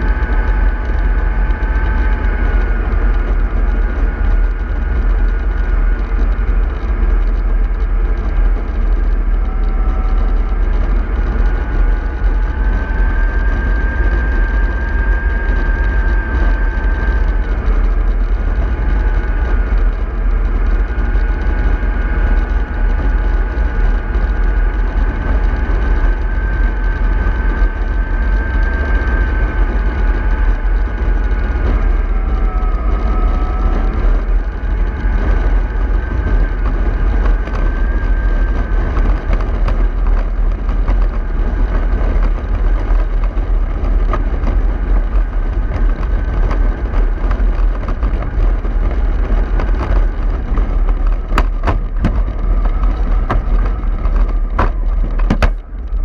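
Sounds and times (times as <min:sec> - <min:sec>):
low rumble: 0:00.0 - 0:56.0
model bus motor whine: 0:00.0 - 0:56.0.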